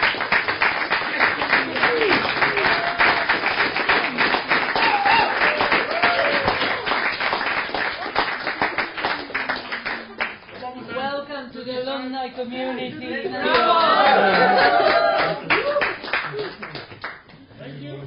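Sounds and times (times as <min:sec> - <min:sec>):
audience applauding: 0:00.0 - 0:10.7, 0:13.5 - 0:17.3.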